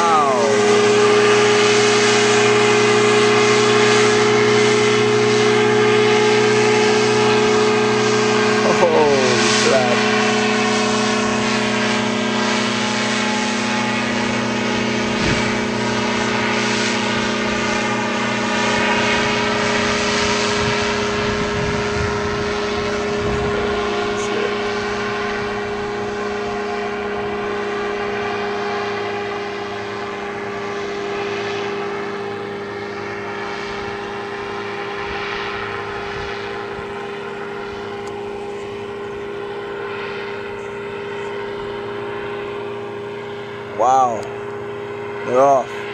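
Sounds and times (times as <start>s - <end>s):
light aircraft engine and propeller: 0.0s - 45.9s.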